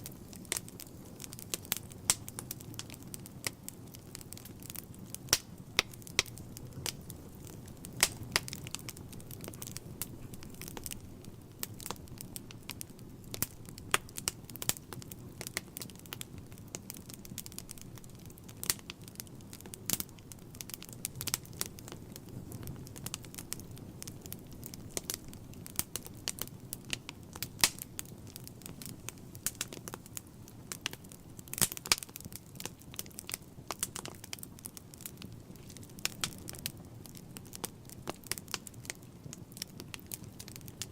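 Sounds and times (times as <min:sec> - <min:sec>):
fire flames rumbling: 0:00.0 - 0:40.9
logs crackling and popping: 0:00.0 - 0:40.9.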